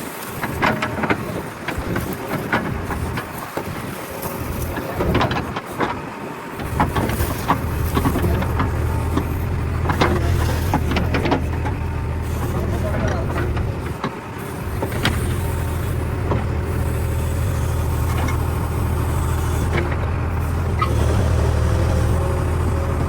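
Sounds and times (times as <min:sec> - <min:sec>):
diesel engine running under load: 0:00.2 - 0:23.0.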